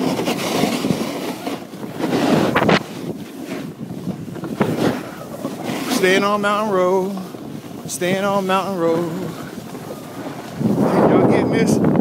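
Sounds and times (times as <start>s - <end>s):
snowboard scraping over snow: 0.0s - 12.0s
wind rushing over microphone: 0.0s - 12.0s.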